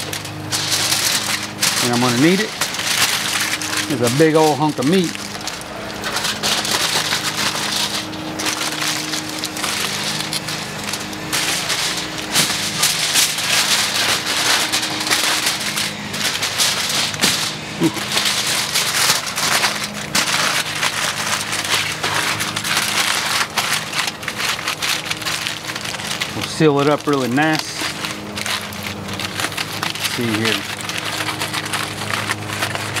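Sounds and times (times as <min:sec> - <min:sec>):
aluminium foil crinkling: 0:00.0 - 0:33.0.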